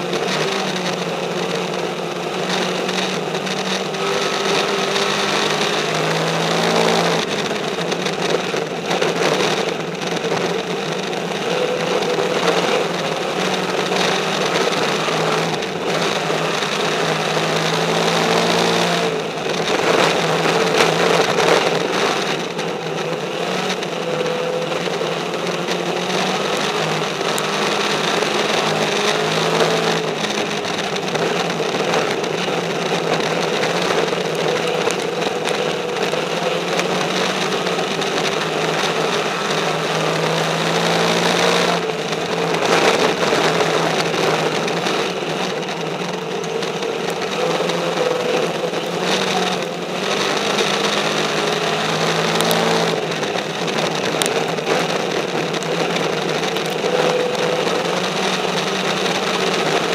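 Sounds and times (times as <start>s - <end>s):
dirt and wind noise: 0.0s - 59.9s
race car engine running hard: 0.0s - 59.9s.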